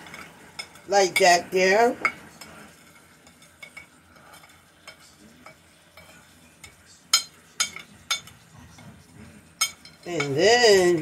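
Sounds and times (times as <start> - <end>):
spoon scraping ceramic plate: 0.0 - 11.0
steaks sizzling: 0.0 - 11.0.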